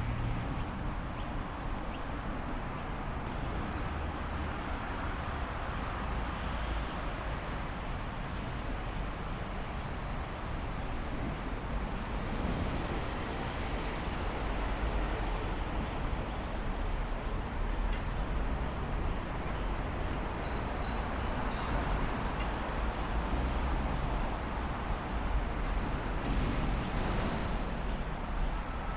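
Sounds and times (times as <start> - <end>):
traffic rumble: 0.0 - 28.9.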